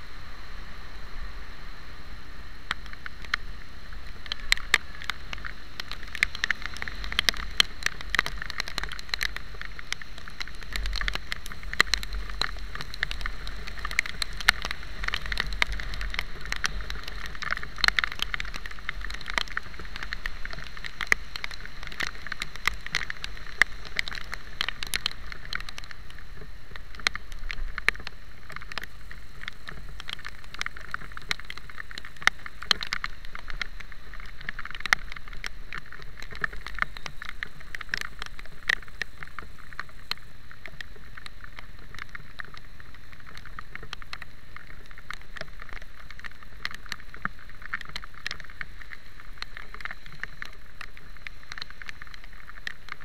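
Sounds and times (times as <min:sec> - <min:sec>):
wind and wet road hiss: 0:00.0 - 0:53.0
raindrops ticking on camera housing: 0:02.5 - 0:53.0.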